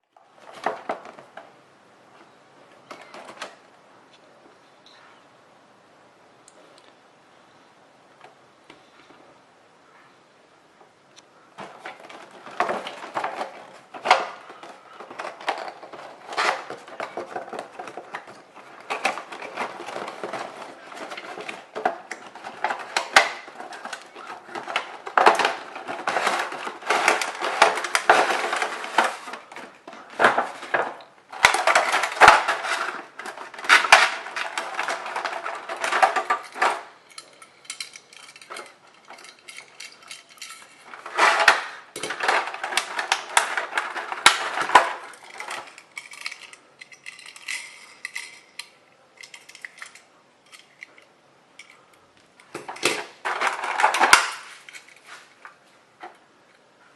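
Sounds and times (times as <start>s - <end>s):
toy cars clattering: 0.0s - 1.6s, 11.5s - 56.2s.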